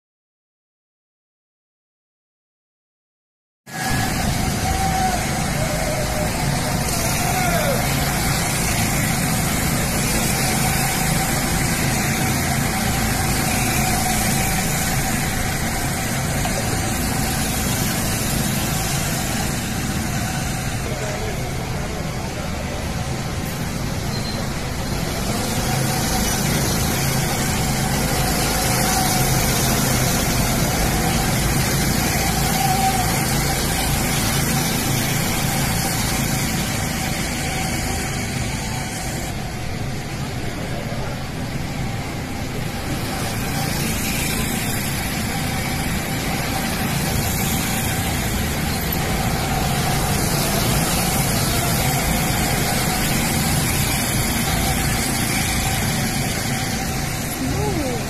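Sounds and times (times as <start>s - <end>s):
go-kart motors: 3.7s - 58.0s.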